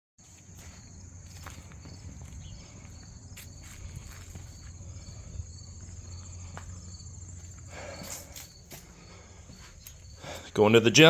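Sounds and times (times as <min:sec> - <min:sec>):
insects chirping in a pulsing trill: 0:00.2 - 0:11.0.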